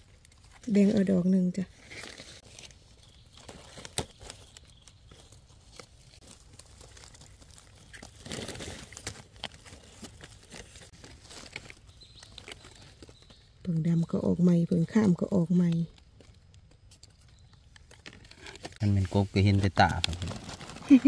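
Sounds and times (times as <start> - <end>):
dry leaves rustling and crackling: 0.0 - 13.6, 14.7 - 21.0.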